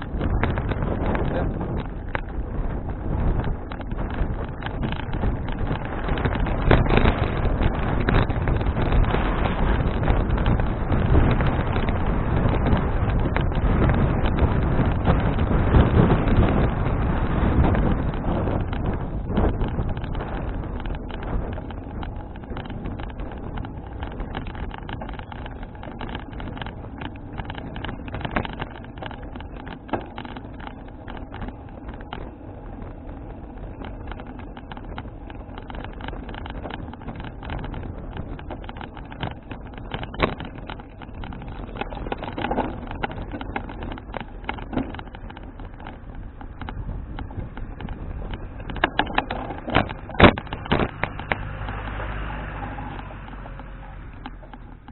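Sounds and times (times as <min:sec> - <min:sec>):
bicycle road noise: 0:00.0 - 0:54.9
clicks and rattles: 0:00.0 - 0:54.9
wind on microphone: 0:00.0 - 0:54.9.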